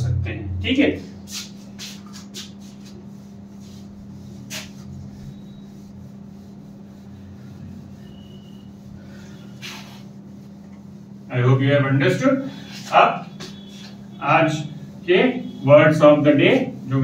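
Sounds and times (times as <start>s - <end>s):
steady low hum: 0.0s - 17.0s
duster rubbing on whiteboard: 1.0s - 17.0s.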